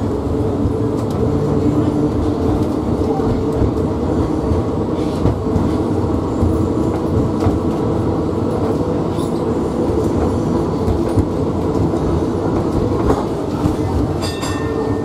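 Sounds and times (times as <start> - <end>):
tram rumble and hum: 0.0 - 15.0.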